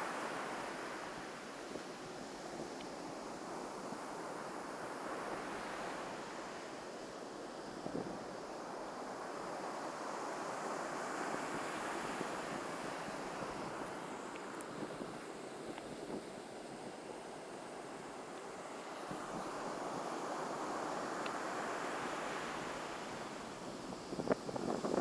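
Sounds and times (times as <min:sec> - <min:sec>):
waves breaking on sand: 0:00.0 - 0:25.0.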